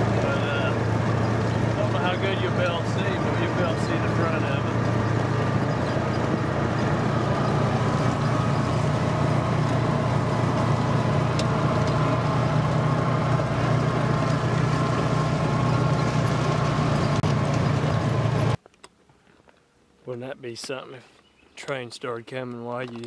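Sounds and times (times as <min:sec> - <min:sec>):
buggy engine drone: 0:00.0 - 0:18.6
tyres on gravel: 0:00.0 - 0:23.0.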